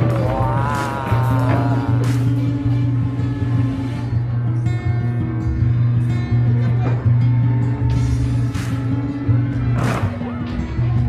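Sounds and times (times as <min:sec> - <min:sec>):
music with heavy bass: 0:00.0 - 0:11.0.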